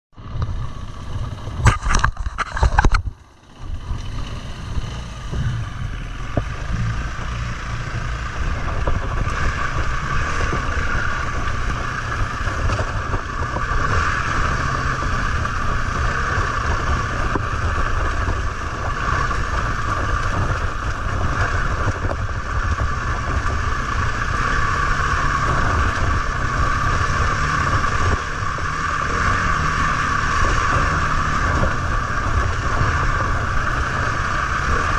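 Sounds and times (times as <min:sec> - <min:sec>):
dirt bike engine: 0:00.1 - 0:34.9
wind noise on microphone: 0:00.2 - 0:34.9.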